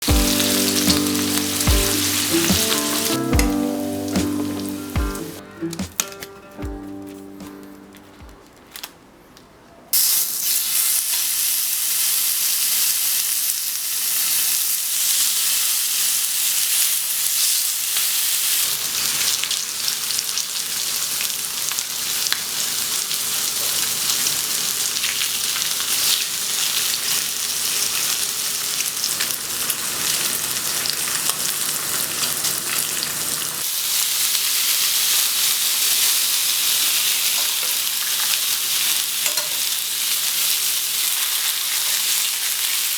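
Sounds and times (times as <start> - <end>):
meat sizzling in a pan: 0.0 - 5.4, 10.0 - 42.9.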